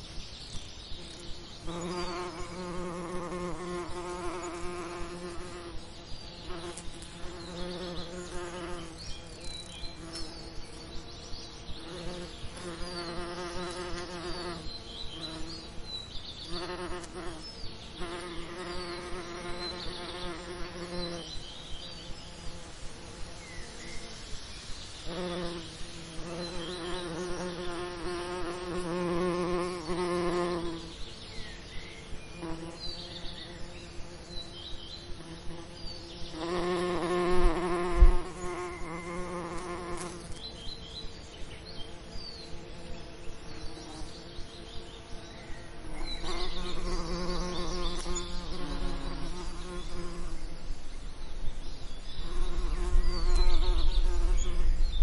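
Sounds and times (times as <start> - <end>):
bees buzzing: 0.9 - 24.3, 25.0 - 31.2, 32.2 - 50.7, 52.0 - 55.0.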